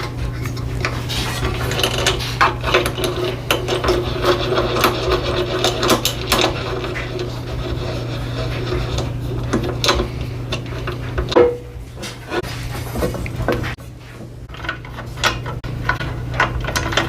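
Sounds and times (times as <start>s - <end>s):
steady low hum: 0.0s - 17.0s
hand tools and metal parts clattering: 0.8s - 17.0s.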